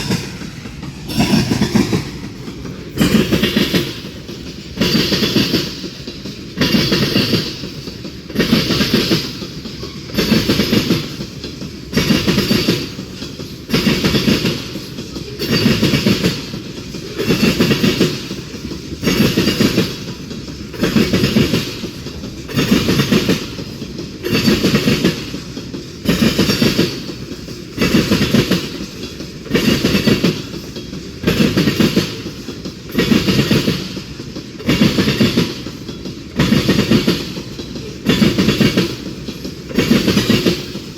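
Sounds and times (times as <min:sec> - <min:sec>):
train wheels clattering over track: 0:00.0 - 0:40.9.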